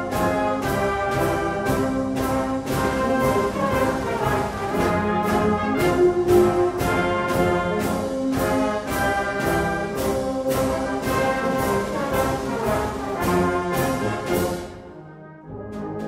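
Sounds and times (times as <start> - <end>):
steady drum beat: 0.0 - 15.0
trombones and horns: 0.0 - 16.0.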